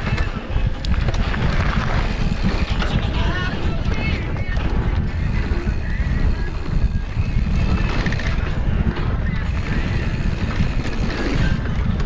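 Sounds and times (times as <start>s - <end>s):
bike tyres crunching on dirt: 0.0s - 12.0s
wind buffeting microphone: 0.0s - 12.0s.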